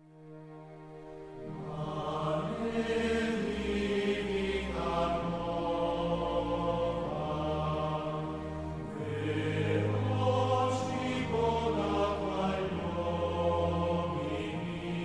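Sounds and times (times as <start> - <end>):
choir-like chords: 0.0 - 15.0.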